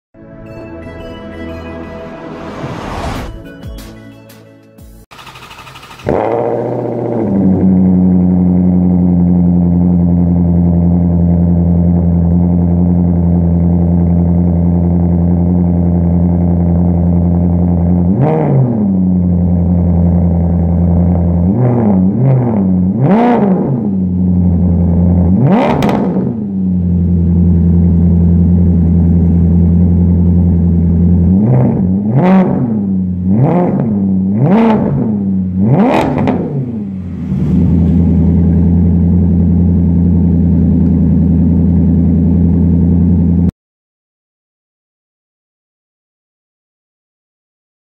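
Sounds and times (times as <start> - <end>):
car engine idling and revving: 5.1 - 43.5.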